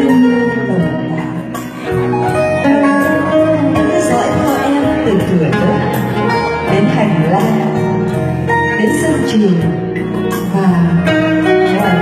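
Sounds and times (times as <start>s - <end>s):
acoustic guitar: 0.0s - 12.0s
electric keyboard: 0.0s - 12.0s.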